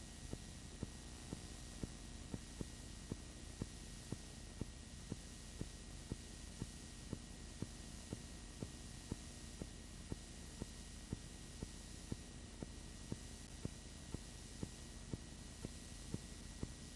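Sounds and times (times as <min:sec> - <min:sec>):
recording hiss and hum: 0:00.0 - 0:16.9.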